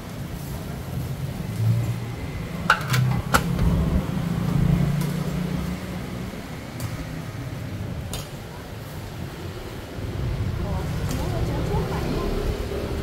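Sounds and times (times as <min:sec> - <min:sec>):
vehicle engine humming: 0:00.8 - 0:08.1, 0:09.0 - 0:13.0.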